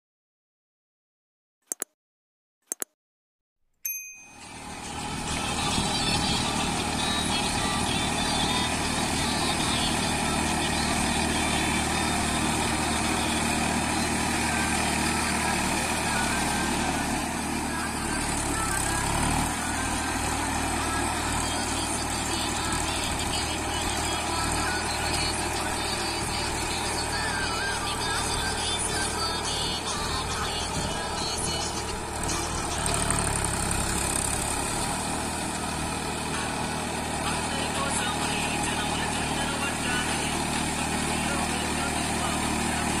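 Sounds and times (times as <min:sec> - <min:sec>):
tractor diesel engine under load: 0:04.3 - 0:43.0.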